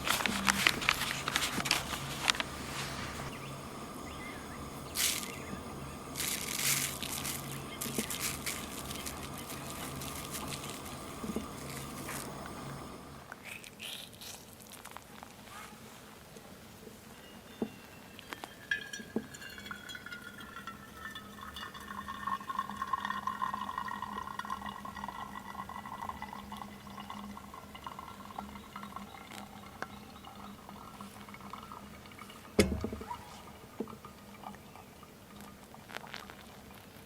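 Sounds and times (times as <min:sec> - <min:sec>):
liquid pouring with ringing tone: 0:00.1 - 0:13.2, 0:17.2 - 0:35.9.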